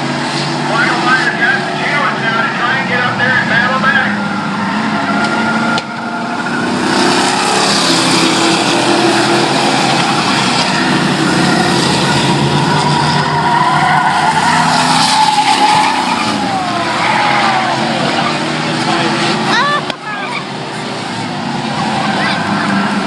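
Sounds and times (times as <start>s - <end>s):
race truck engines droning: 0.0s - 23.0s
truck passing by: 0.0s - 23.0s.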